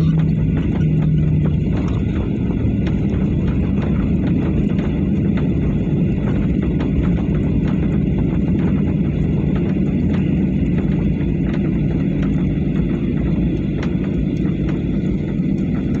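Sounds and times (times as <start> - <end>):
airliner engine and airflow rumble: 0.0 - 16.0.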